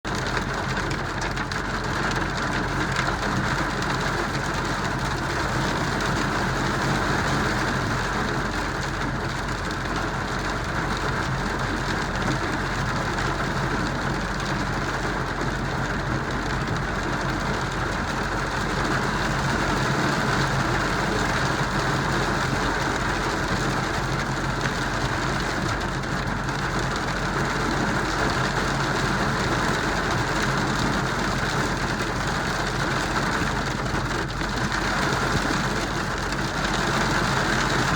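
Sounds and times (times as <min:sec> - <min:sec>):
hail and heavy rain pelting: 0:00.1 - 0:37.9.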